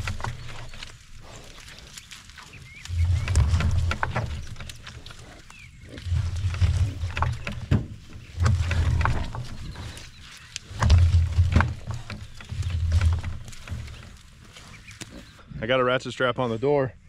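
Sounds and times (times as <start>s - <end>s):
snouts and trotters scuffing mud: 0.0s - 15.4s
pigs grunting: 0.0s - 15.7s.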